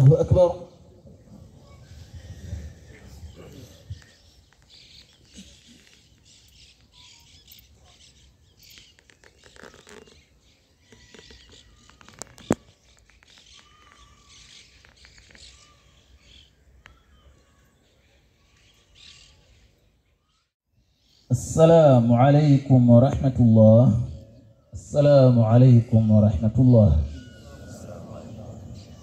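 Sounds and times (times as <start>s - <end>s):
faint bird chirps: 0.6s - 21.4s, 24.2s - 29.0s.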